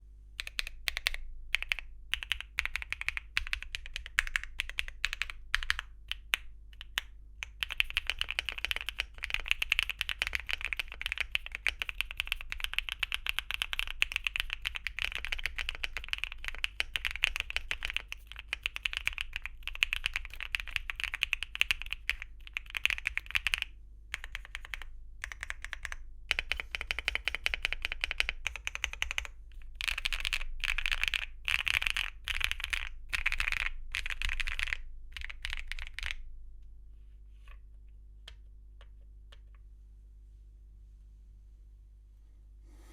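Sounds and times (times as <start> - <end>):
mechanical keyboard typing: 0.4 - 36.2.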